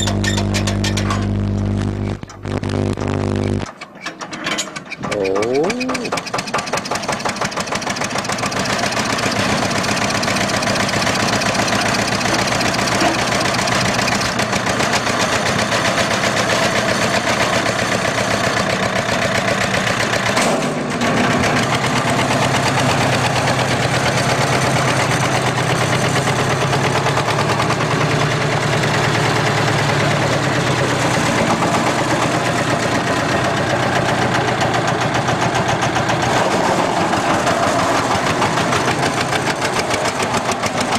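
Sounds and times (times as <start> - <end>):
diesel engine knocking: 5.8 - 40.9.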